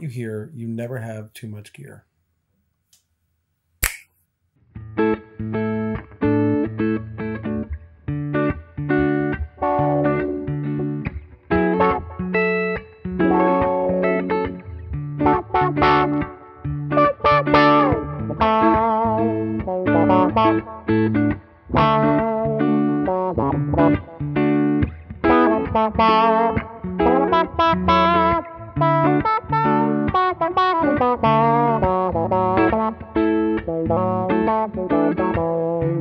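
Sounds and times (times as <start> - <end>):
electric guitars with auto-wah: 5.0 - 36.0.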